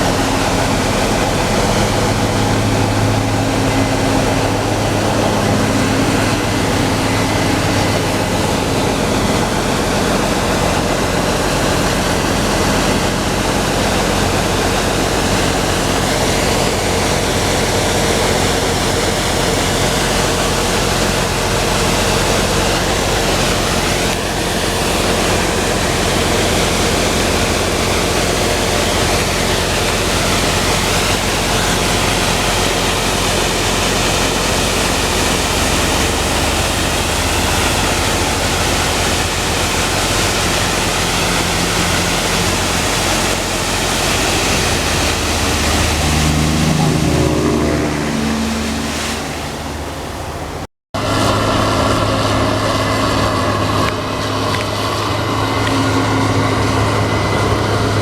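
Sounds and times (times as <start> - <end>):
combine harvester threshing: 0.0 - 58.0.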